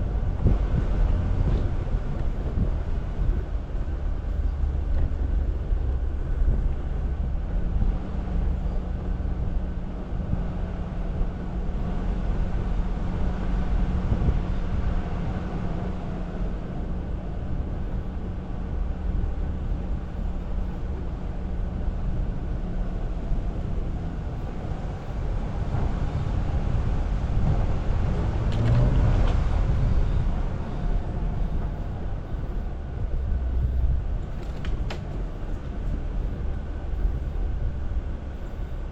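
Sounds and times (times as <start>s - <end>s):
engine and drivetrain rumble: 0.0s - 38.9s.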